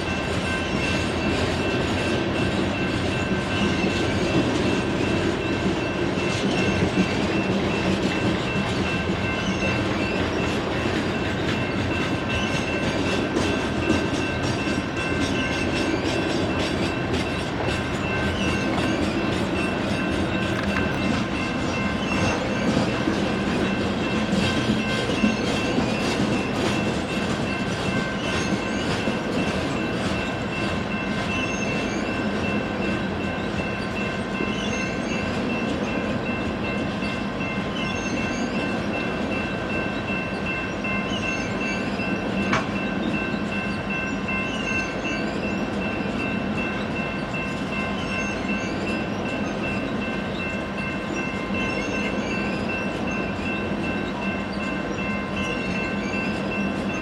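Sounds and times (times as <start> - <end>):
train wheels rumbling over rails: 0.0 - 57.0.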